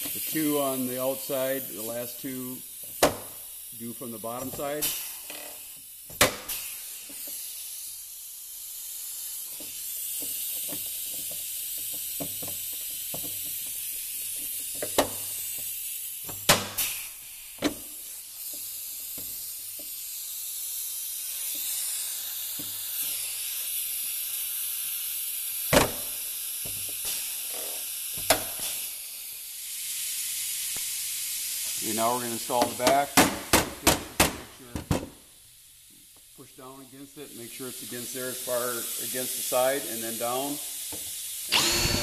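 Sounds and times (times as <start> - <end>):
air hose hissing: 0.0 - 42.0.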